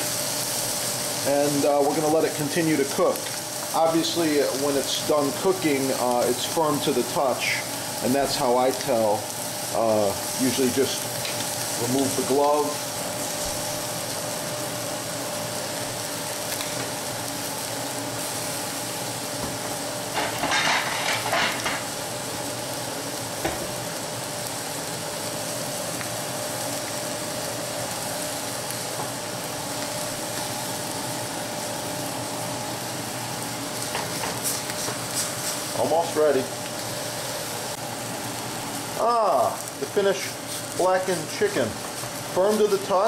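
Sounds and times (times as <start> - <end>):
chicken sizzling in frying pan: 0.0 - 43.0.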